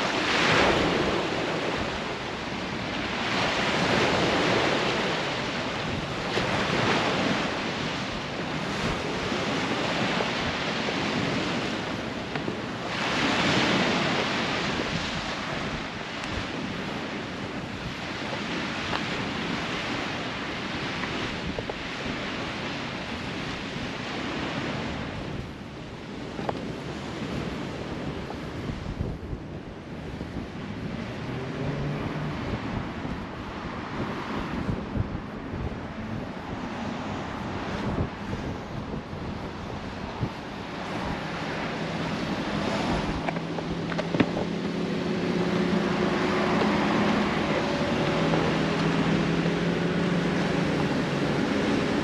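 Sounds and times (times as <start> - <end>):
small waves breaking on a beach: 0.0 - 52.0
wind buffeting the microphone: 0.0 - 52.0.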